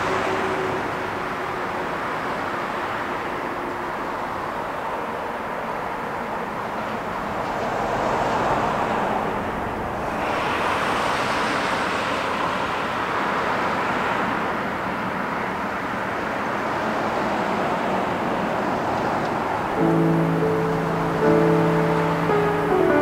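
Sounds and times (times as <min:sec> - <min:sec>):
distant road traffic rushing: 0:00.0 - 0:23.0.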